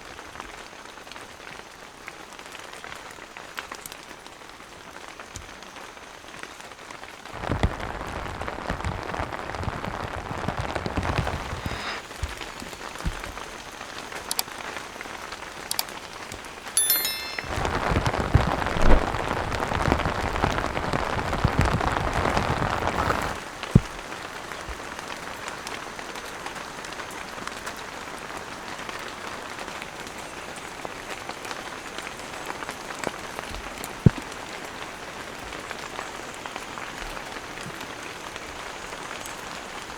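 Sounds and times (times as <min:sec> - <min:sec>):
rain on tent awning: 0:00.0 - 0:16.7, 0:17.5 - 0:39.9.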